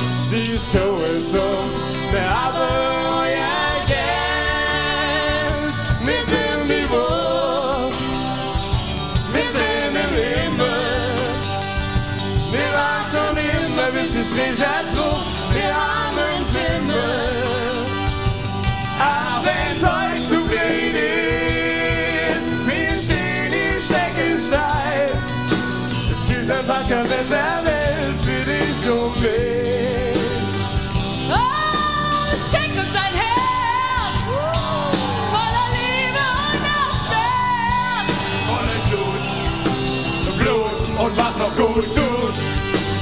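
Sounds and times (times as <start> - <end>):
electric guitars: 0.0 - 43.0
person singing with vibrato: 0.0 - 43.0
rock band playing: 0.0 - 43.0
steady drum beat: 0.0 - 43.0.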